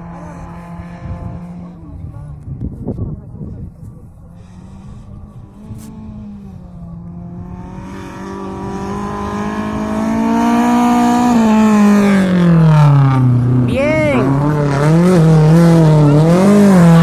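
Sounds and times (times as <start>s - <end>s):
rally car engine passing: 0.0s - 2.5s, 4.2s - 17.0s.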